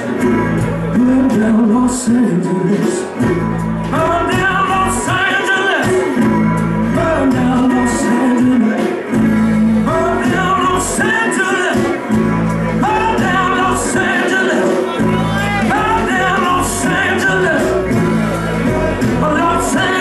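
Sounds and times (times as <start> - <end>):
bass guitar: 0.0 - 20.0
man singing: 0.0 - 20.0
resonator guitar: 0.0 - 20.0
strummed acoustic guitar: 0.0 - 20.0.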